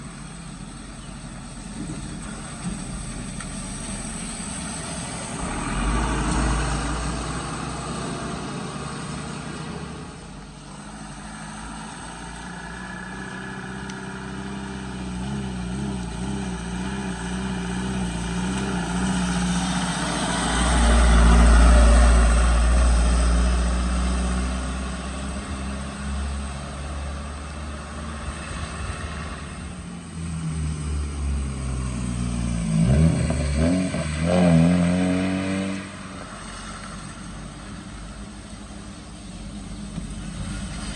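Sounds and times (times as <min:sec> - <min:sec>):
vehicle engines revving: 0:00.0 - 0:40.9.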